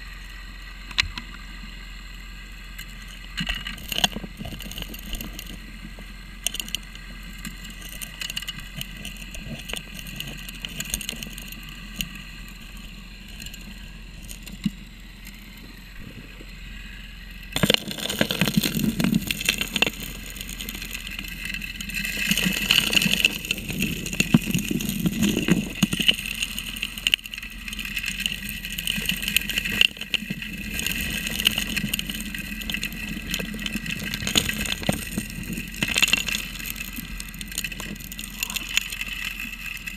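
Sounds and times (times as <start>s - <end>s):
gravel clicking and rattling: 0.0s - 39.9s
underwater pump engine drone: 0.0s - 39.9s.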